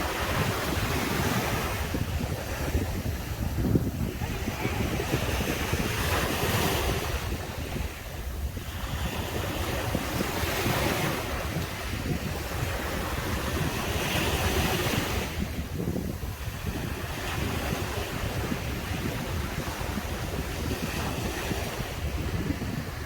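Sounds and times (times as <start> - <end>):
ocean waves breaking on a beach: 0.0 - 23.0
wind rumbling on microphone: 0.0 - 23.0.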